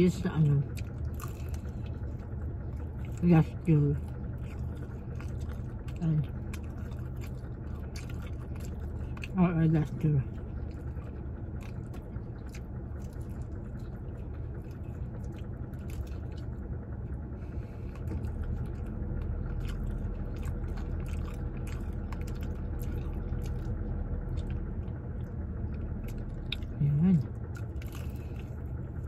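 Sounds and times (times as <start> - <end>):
person chewing crunchy food: 0.0 - 29.0
steady low rumble: 0.0 - 29.0.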